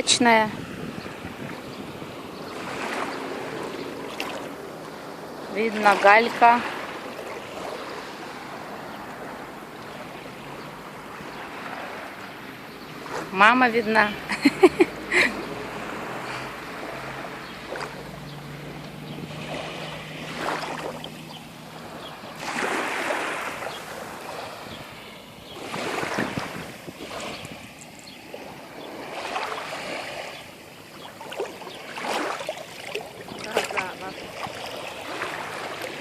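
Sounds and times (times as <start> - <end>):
waves washing over pebbles: 0.0 - 13.6, 14.9 - 36.0.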